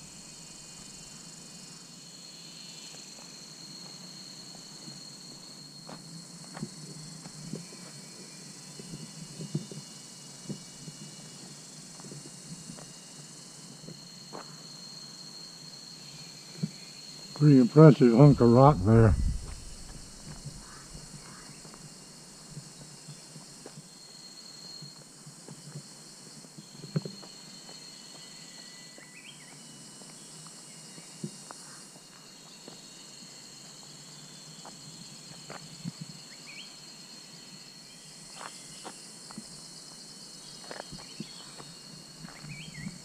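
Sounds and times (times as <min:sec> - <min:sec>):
faint ticks and chirps: 0:00.0 - 0:43.0
insects buzzing: 0:00.0 - 0:43.0.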